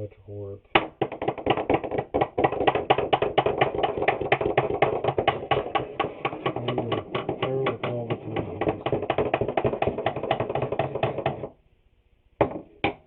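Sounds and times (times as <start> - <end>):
sharp percussive taps: 0.8 - 11.5.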